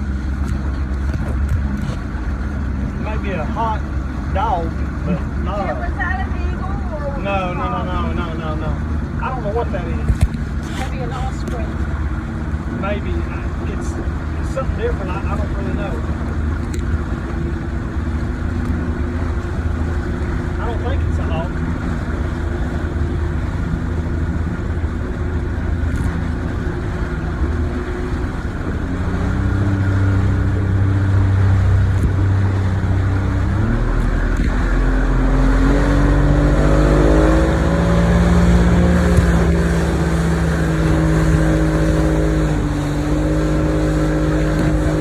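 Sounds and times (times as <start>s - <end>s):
motorboat engine running: 0.0s - 45.0s
rush of wind and water: 0.0s - 45.0s.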